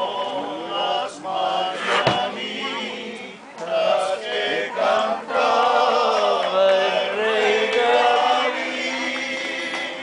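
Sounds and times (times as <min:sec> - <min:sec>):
men singing together: 0:00.0 - 0:10.0.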